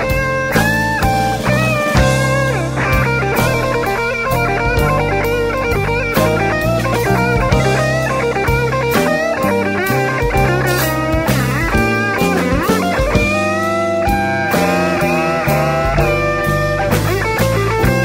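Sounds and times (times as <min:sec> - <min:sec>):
bass guitar: 0:00.0 - 0:18.0
drum kit: 0:00.0 - 0:18.0
electric guitar lead: 0:00.0 - 0:18.0.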